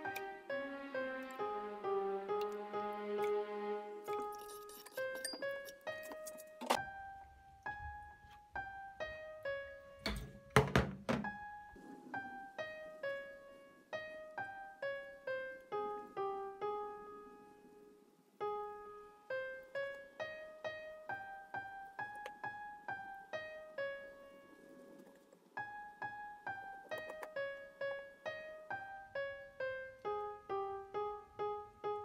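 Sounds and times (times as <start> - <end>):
electric piano music: 0.0 - 32.0.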